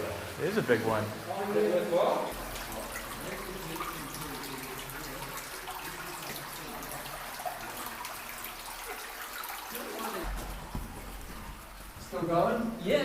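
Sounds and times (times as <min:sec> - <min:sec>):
running water hiss: 0:00.0 - 0:13.0
water dripping: 0:00.0 - 0:13.0.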